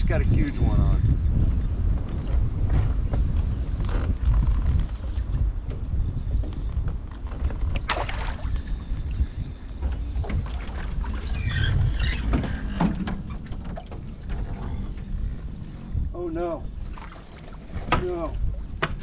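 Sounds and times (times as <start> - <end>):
water and hull noise: 0.0 - 19.0.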